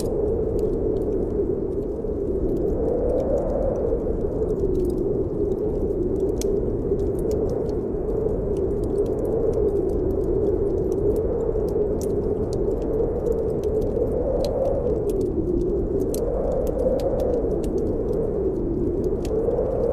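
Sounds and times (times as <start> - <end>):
snowstorm wind blowing: 0.0 - 19.9
wood fire crackling: 0.0 - 19.9.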